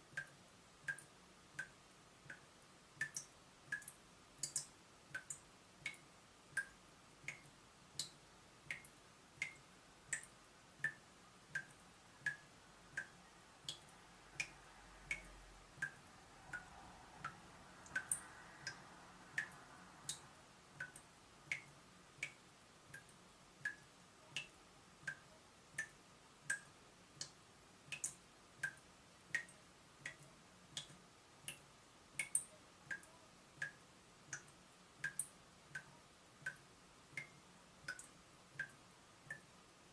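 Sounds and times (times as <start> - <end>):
water dripping from tap: 0.1 - 31.6, 32.2 - 36.6, 37.2 - 39.5.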